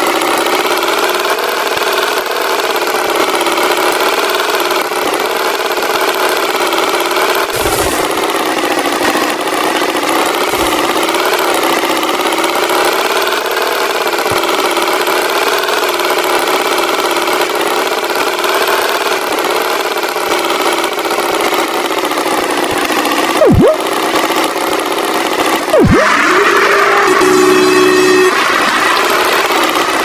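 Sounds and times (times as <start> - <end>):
tractor engine droning: 0.0 - 30.0.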